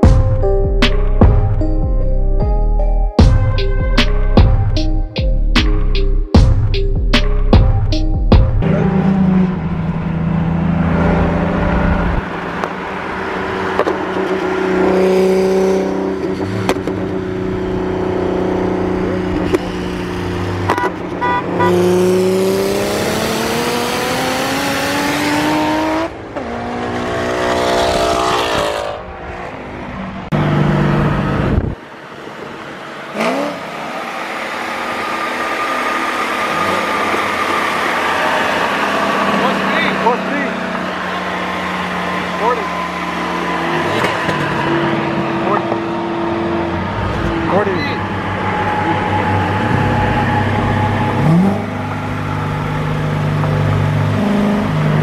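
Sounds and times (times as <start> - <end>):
car engines at high speed: 8.4 - 55.0
engine accelerating hard: 8.4 - 55.0.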